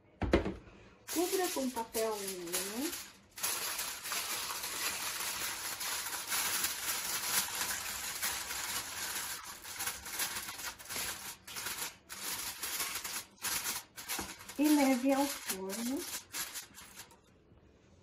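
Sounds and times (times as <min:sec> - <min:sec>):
aluminium foil crinkling: 0:01.1 - 0:17.2.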